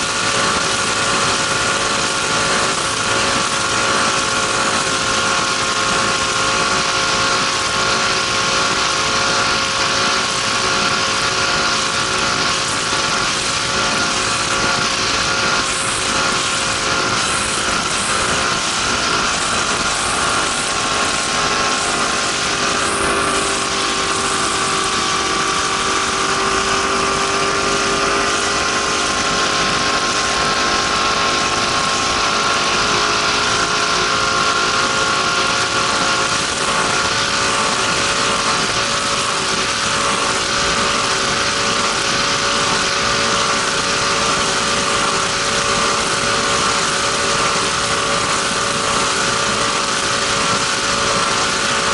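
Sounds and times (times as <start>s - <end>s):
powerboat engine running hard: 0.0s - 51.9s.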